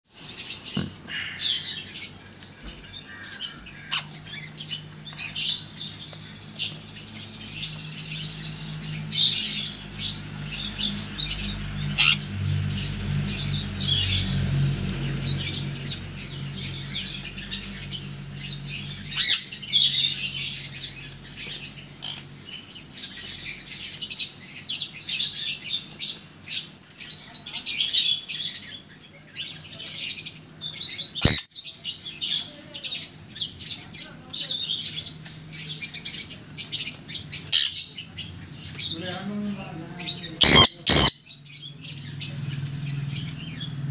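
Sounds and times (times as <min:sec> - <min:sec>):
parrots chirping and squawking: 0:00.2 - 0:43.9.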